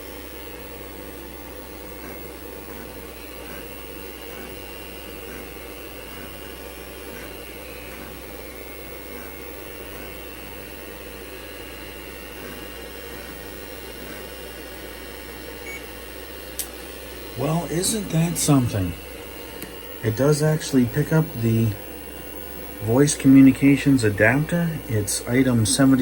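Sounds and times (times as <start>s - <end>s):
computer fans whirring: 0.0s - 26.0s
constant low hum: 0.0s - 26.0s
hard drives spinning: 0.0s - 26.0s.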